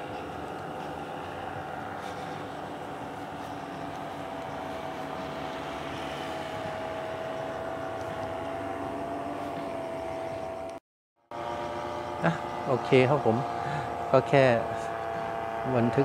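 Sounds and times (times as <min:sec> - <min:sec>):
distant paramotor engine droning: 0:00.0 - 0:16.0.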